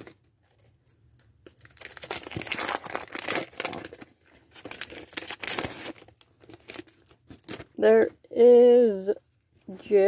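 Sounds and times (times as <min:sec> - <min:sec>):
wrapper crinkling: 0:00.0 - 0:08.1.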